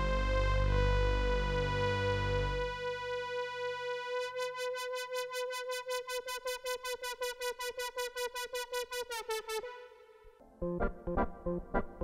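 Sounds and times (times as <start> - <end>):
pulsing synthesizer note: 0.0 - 12.0.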